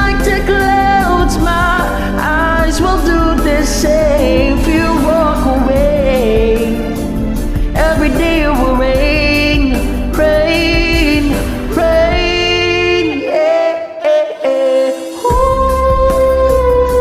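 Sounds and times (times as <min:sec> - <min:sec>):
person singing long notes: 0:00.0 - 0:17.0
pop ballad backing track: 0:00.0 - 0:17.0.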